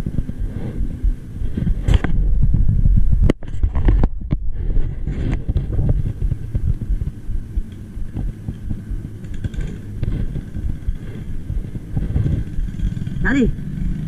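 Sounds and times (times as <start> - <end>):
low uneven rumble: 0.0 - 14.0.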